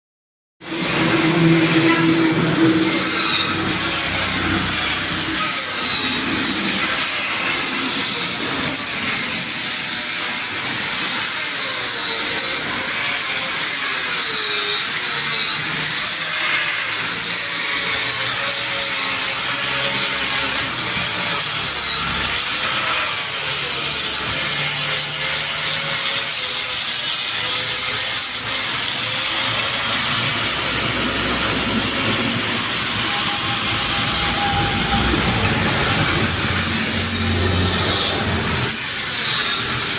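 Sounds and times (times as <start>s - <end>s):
power tool whining on steel: 0.6s - 39.9s.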